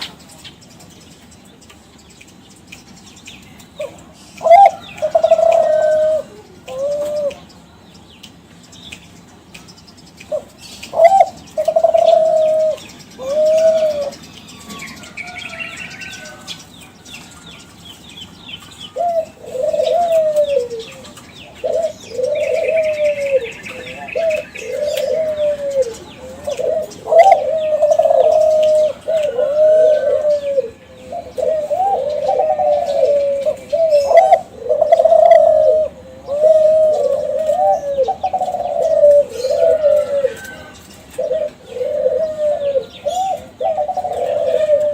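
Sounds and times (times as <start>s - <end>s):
small birds chirping: 0.0s - 44.9s
dove cooing: 3.8s - 7.5s, 10.3s - 16.5s, 18.6s - 44.9s.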